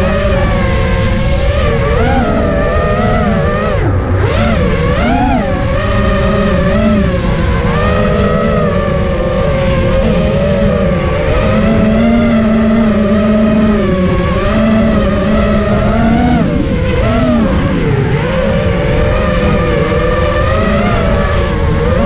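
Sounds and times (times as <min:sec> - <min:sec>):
drone motors whining: 0:00.0 - 0:22.0
wind rush on microphone: 0:00.0 - 0:22.0.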